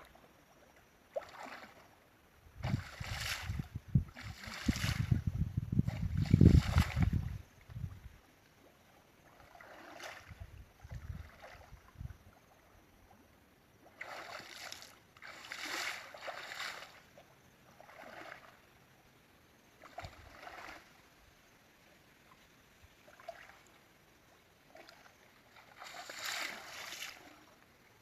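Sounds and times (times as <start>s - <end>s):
water splashing and sloshing: 0.0s - 18.9s, 19.7s - 21.3s, 22.2s - 27.9s.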